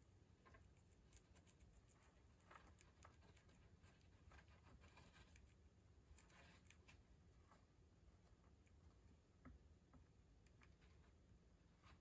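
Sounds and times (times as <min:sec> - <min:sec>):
hamster nibbling leaf: 0:00.0 - 0:12.0.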